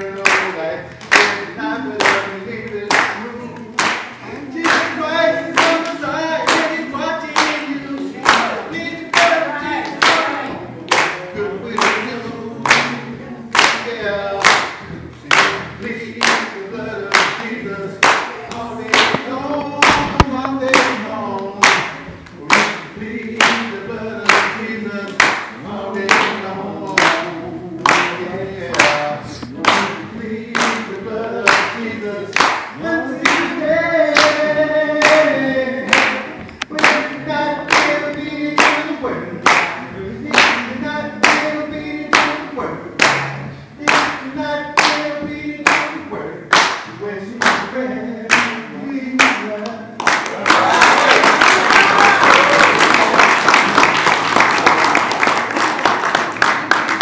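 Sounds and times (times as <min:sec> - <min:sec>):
group of people singing: 0:00.0 - 0:57.0
hand clapping in time: 0:00.1 - 0:35.3, 0:35.9 - 0:42.4, 0:43.0 - 0:47.7, 0:48.3 - 0:48.6, 0:49.2 - 0:57.0.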